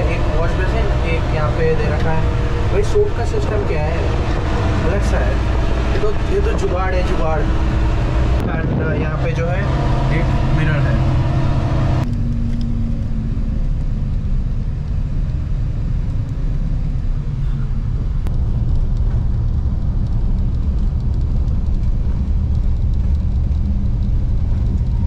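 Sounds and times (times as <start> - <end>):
coach engine and road rumble: 0.0 - 25.0.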